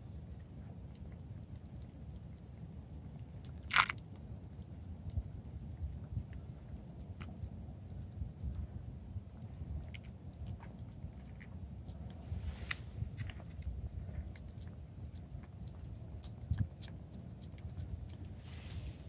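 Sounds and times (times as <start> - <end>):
cats licking wet smacking: 0.0 - 12.2, 12.9 - 19.0.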